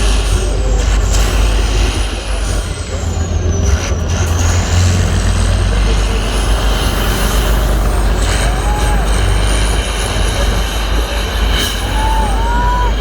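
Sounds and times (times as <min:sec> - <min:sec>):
truck engine running loud: 0:00.0 - 0:13.0.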